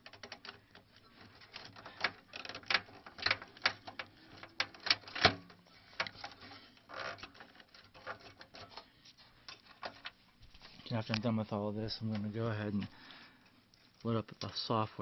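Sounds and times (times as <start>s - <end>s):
hands handling computer parts: 0.0s - 15.0s.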